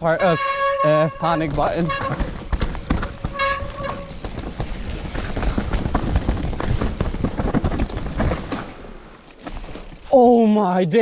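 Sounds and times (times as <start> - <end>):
bike rattling on rough trail: 0.0 - 10.4.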